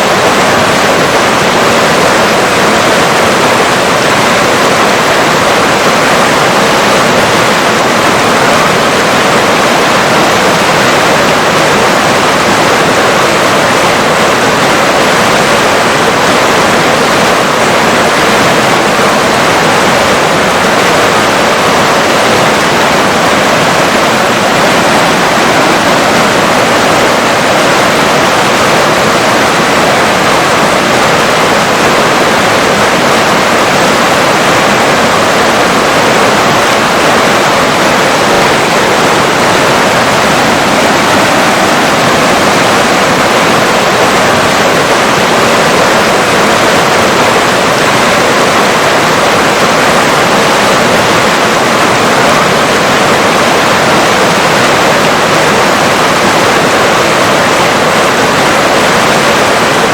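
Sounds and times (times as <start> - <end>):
river water rushing and splashing: 0.0 - 59.9.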